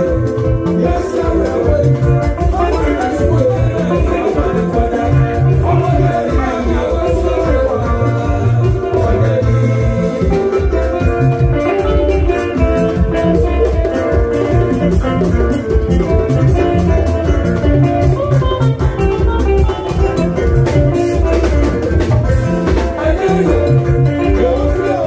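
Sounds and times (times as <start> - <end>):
bright guitar lines: 0.0 - 25.0
drum kit beat: 0.0 - 25.0.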